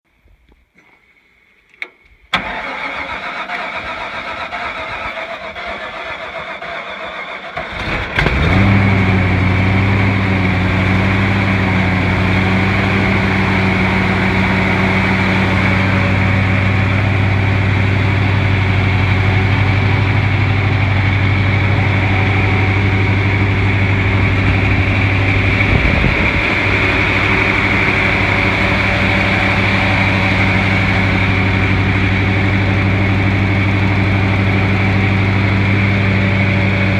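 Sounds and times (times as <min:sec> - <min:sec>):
engine starter cranking: 0:02.3 - 0:32.0
engine running steadily: 0:02.4 - 0:36.9.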